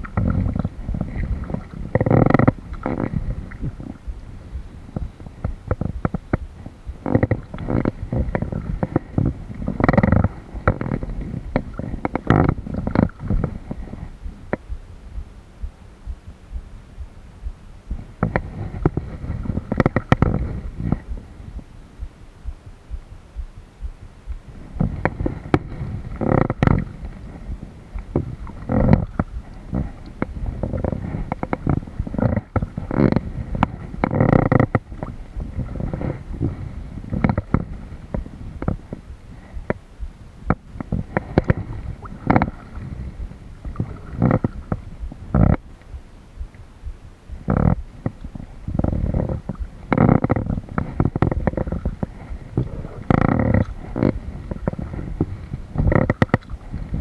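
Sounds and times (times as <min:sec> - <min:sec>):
kayak paddle strokes: 0:00.0 - 0:57.0
water sloshing against hull: 0:00.0 - 0:57.0.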